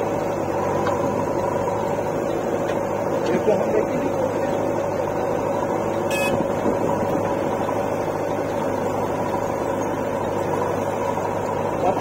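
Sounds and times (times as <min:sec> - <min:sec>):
diesel engines idling: 0:00.0 - 0:12.0.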